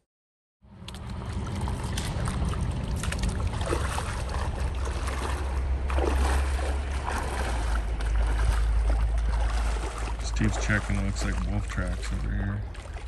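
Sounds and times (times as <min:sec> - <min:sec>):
wind rumbling on microphone: 0:00.7 - 0:13.0.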